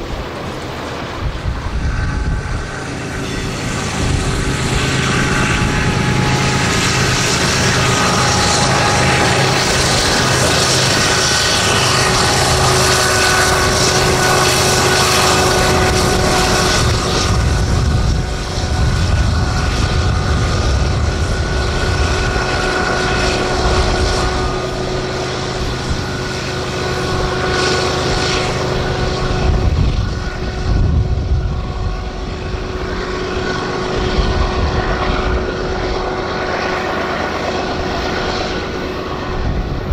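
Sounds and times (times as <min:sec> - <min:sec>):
locomotive engine drone: 0:00.0 - 0:39.9
wheels on rails: 0:00.0 - 0:39.9.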